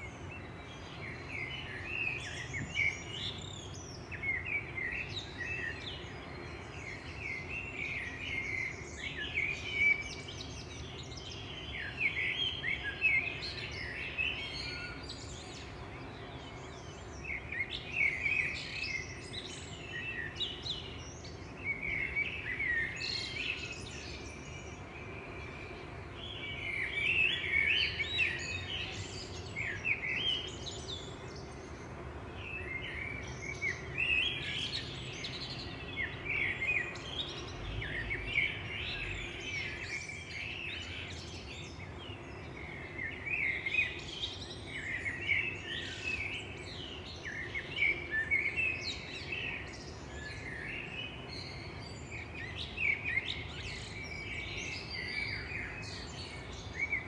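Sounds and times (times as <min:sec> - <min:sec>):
faint background noise: 0:00.0 - 0:57.0
songbirds chirping and trilling: 0:00.0 - 0:57.0.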